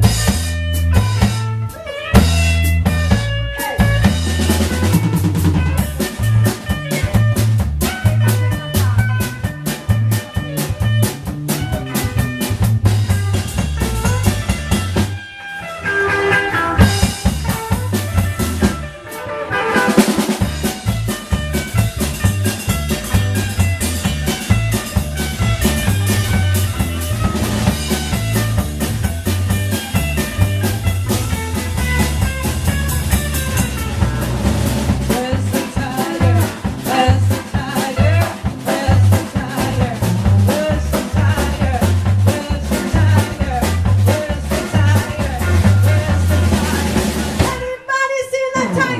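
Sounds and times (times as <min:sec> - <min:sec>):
drum kit steady beat: 0:00.0 - 0:47.8
blues band playing live: 0:00.0 - 0:48.9.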